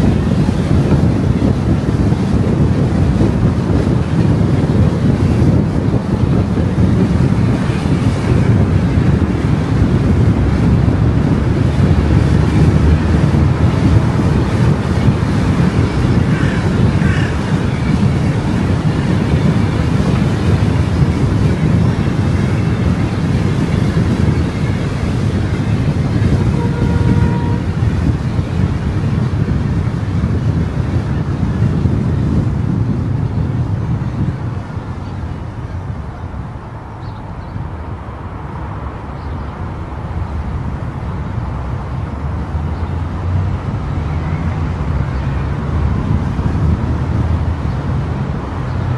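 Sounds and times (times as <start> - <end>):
car road and wind noise: 0.0 - 48.9.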